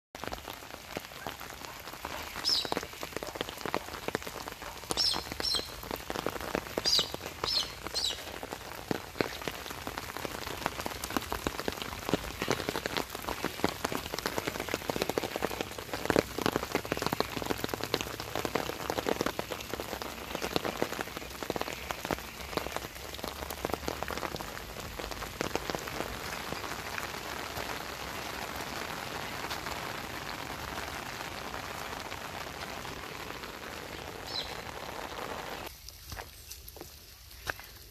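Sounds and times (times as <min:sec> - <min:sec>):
rain on leaves and dirt: 0:00.2 - 0:37.9.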